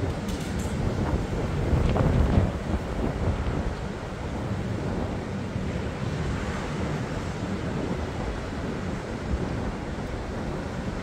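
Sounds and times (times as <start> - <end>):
ocean surf on beach: 0.0 - 11.0
wind buffeting microphone: 0.0 - 11.0.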